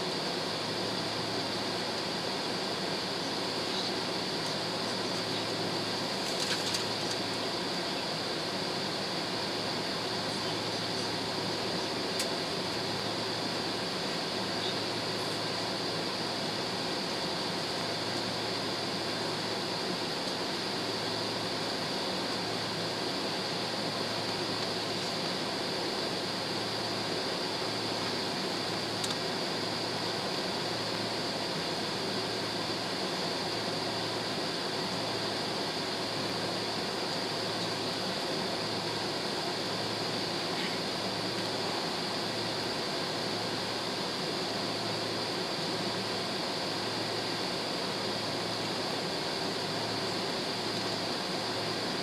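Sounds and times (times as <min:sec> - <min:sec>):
jet engines idling: 0:00.0 - 0:52.0.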